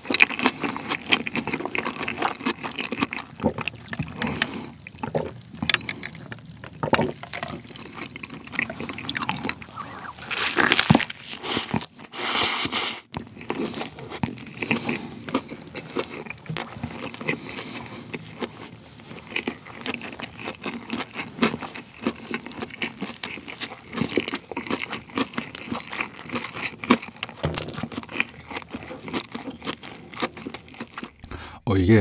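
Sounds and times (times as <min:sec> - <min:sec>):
person chewing crunchy food: 0:00.0 - 0:12.4, 0:13.1 - 0:31.4.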